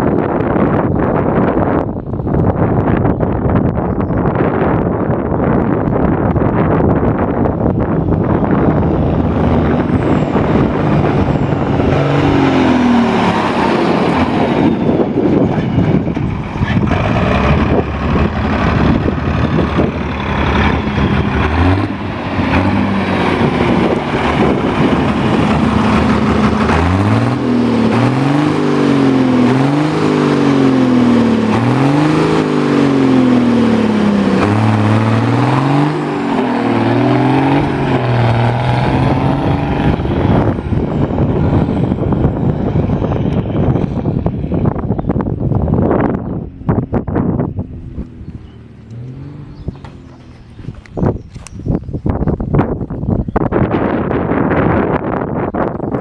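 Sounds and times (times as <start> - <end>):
tractor engine revving: 6.2 - 52.0.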